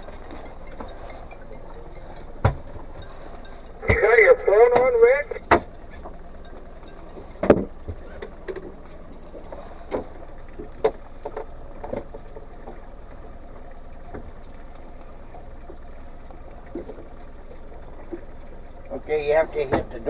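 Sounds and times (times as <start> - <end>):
boat motor running: 0.0 - 20.0.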